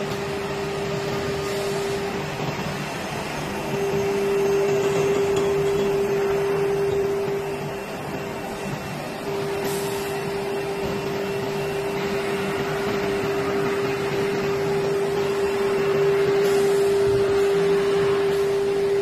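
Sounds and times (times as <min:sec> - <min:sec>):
machine humming and whirring: 0:00.0 - 0:19.0.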